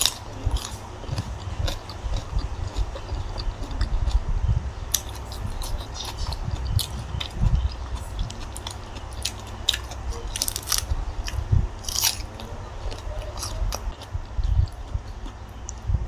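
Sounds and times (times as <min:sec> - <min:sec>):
person chewing and crunching: 0:00.0 - 0:16.0.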